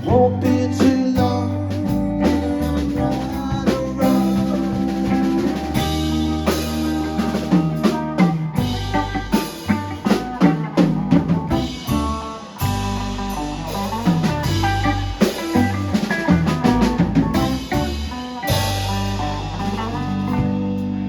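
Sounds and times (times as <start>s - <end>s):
bass line: 0.0s - 21.0s
guitar notes: 0.0s - 21.0s
drum hits: 2.3s - 20.8s.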